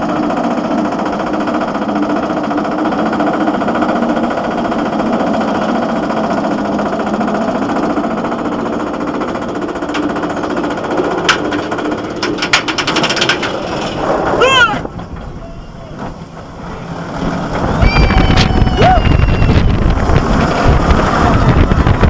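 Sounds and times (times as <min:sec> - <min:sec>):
roller coaster chain lift clattering: 0:00.0 - 0:22.0.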